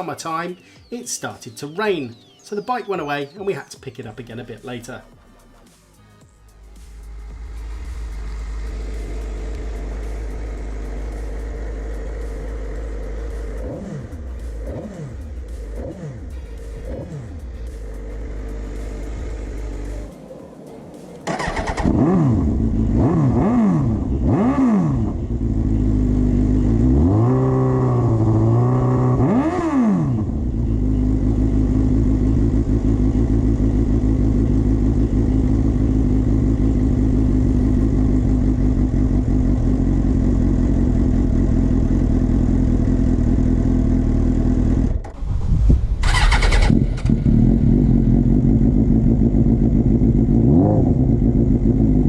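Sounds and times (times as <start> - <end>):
motorcycle engine revving: 6.6 - 52.0.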